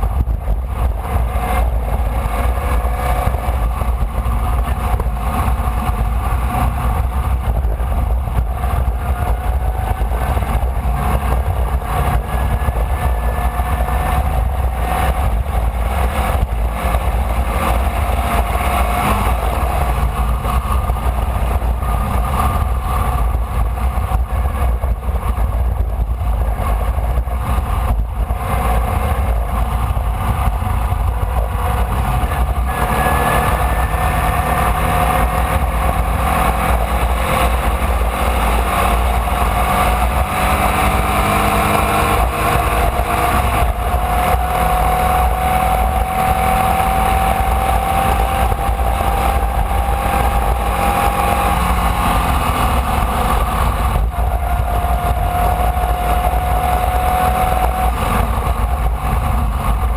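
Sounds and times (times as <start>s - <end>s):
racing car engine: 0.0s - 59.9s.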